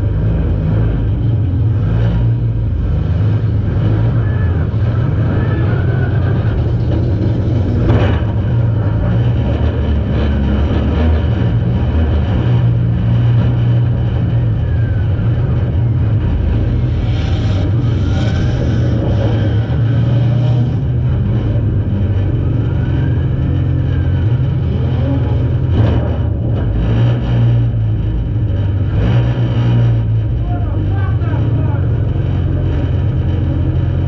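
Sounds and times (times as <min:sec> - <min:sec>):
car engine running loudly: 0:00.0 - 0:34.0.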